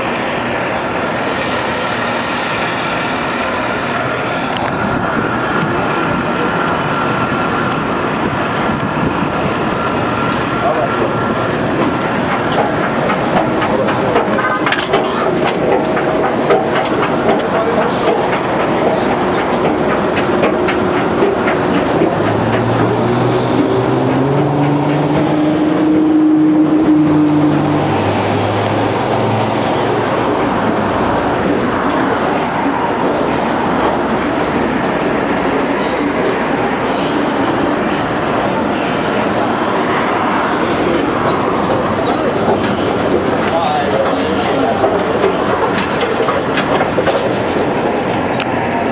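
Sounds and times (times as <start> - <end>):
city street noise: 0.0 - 48.9
escalator steps clattering: 0.0 - 48.9.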